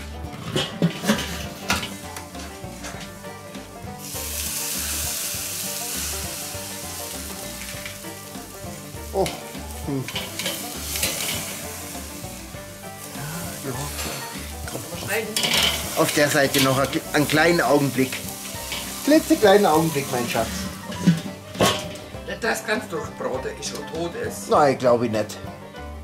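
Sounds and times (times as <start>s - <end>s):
meat sizzling on a grill: 0.3s - 21.5s.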